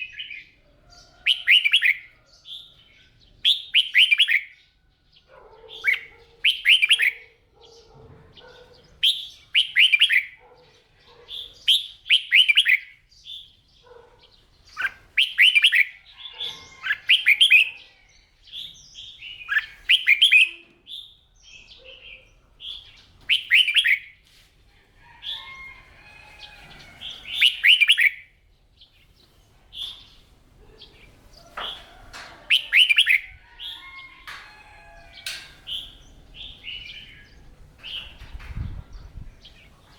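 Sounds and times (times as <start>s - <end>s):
bird singing warbled phrases: 0.0s - 24.2s, 26.8s - 34.4s, 35.0s - 39.9s.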